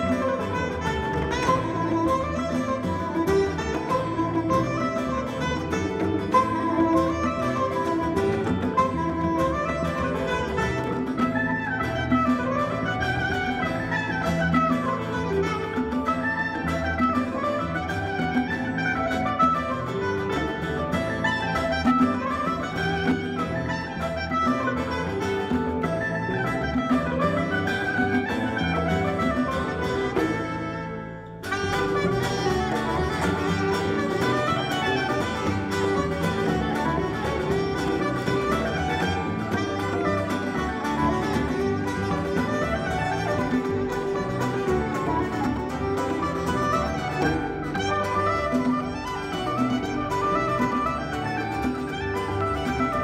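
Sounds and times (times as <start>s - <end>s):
electric mandolin reel with band: 0.0s - 53.0s
soprano saxophone melody: 0.0s - 53.0s.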